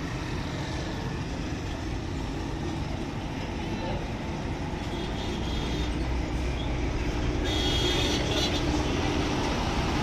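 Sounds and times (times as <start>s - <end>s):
bus diesel engine running: 0.0s - 10.0s
road noise rumble: 0.0s - 10.0s.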